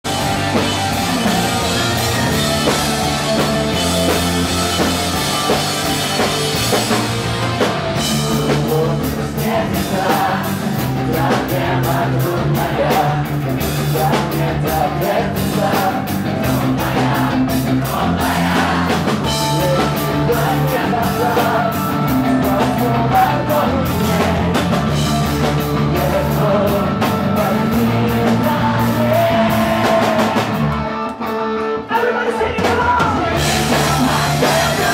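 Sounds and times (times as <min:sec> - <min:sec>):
drum kit beats: 0:00.0 - 0:34.9
guitar and bass notes: 0:00.0 - 0:34.9.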